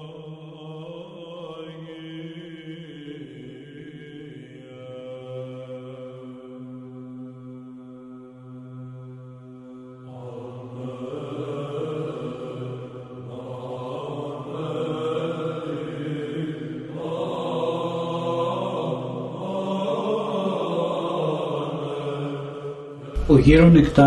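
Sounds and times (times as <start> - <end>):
held vocal drone: 0.0 - 24.0.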